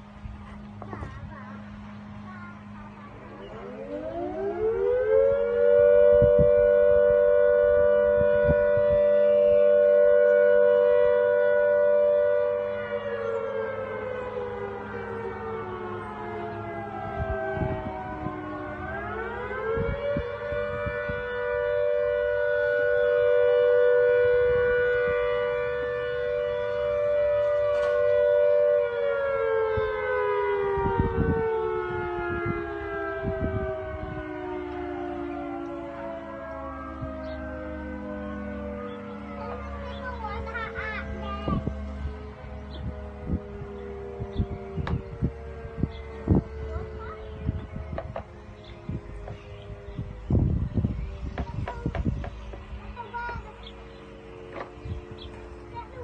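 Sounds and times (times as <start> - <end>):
two-note siren wail: 1.6 - 56.0.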